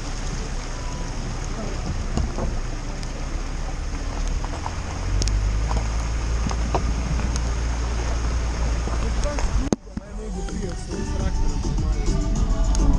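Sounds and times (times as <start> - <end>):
rushing water: 0.0 - 12.9
van engine rumbling: 0.0 - 12.9.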